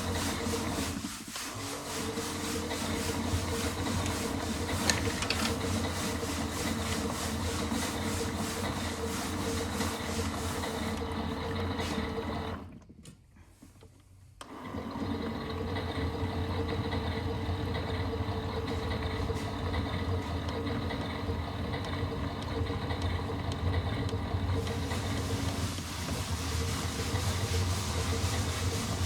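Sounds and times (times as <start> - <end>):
washing machine drum motor humming: 0.0 - 12.8, 14.8 - 29.0.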